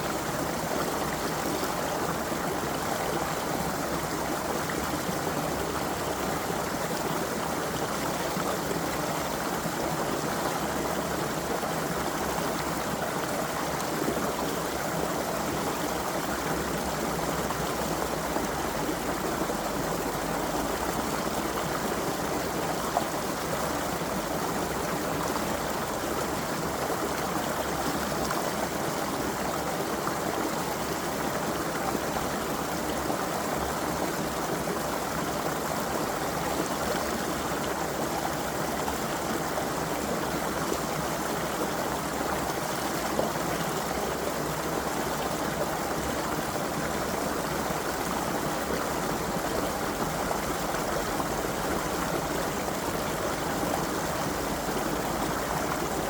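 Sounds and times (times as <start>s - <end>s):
creek water running: 0.0s - 56.0s.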